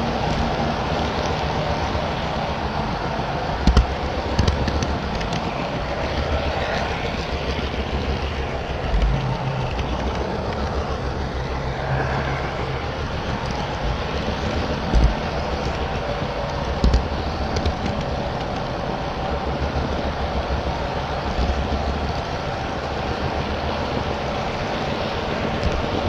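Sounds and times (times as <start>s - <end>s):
model trains rumbling: 0.0s - 26.0s.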